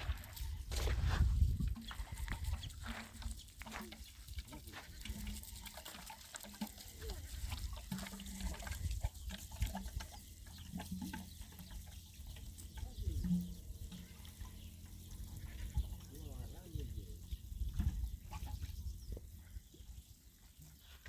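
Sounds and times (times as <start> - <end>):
farm animals calling: 1.7 - 21.0.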